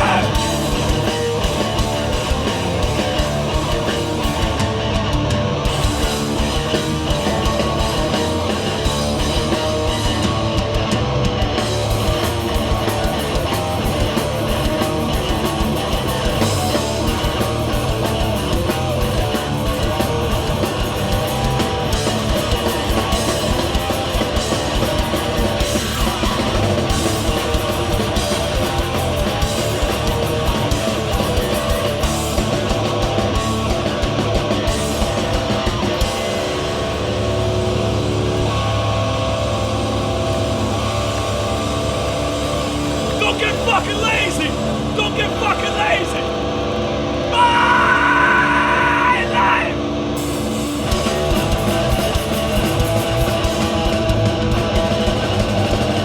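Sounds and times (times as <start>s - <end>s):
punk band playing live: 0.0s - 56.0s.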